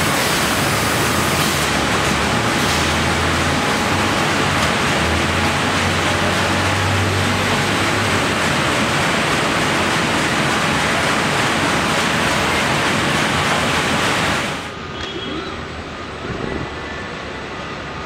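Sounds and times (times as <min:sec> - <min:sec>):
factory machinery rushing noise: 0:00.0 - 0:18.0.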